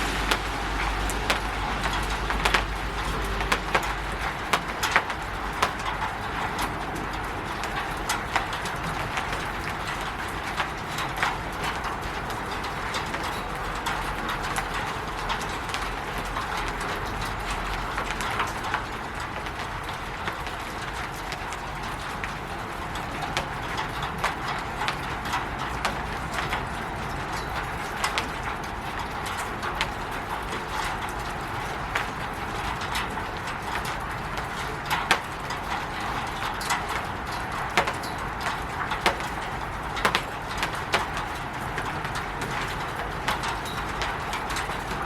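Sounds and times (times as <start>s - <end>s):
rain hissing on a roof: 0.0s - 45.0s.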